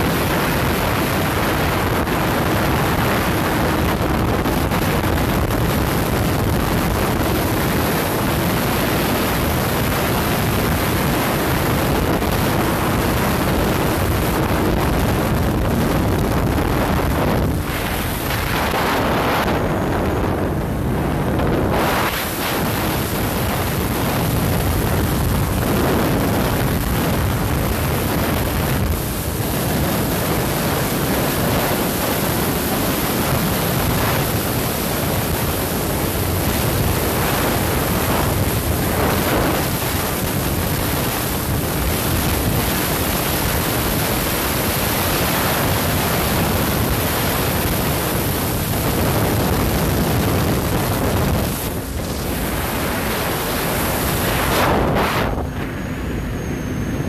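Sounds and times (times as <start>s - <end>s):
wind roaring over microphone: 0.0s - 57.0s
road noise: 2.6s - 42.7s, 49.9s - 57.0s.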